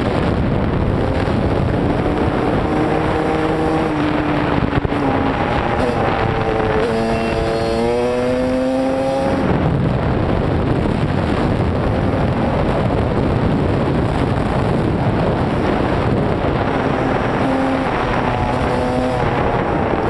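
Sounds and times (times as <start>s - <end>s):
dirt bike engine: 0.0s - 20.0s
wind rush on microphone: 0.0s - 20.0s.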